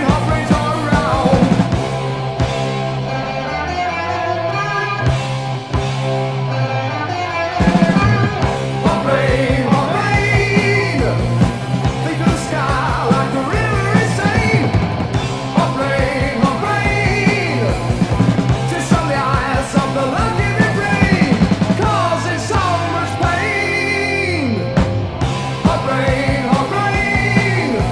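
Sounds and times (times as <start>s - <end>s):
person singing lead vocal: 0.0s - 1.8s, 2.7s - 5.2s, 6.8s - 24.8s, 25.5s - 27.9s
heavy metal band playing: 0.0s - 27.9s.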